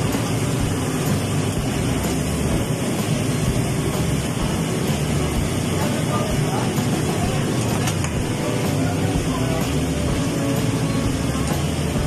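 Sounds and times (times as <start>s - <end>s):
exhaust hood running: 0.0s - 12.0s
wok burners roaring: 0.0s - 12.0s.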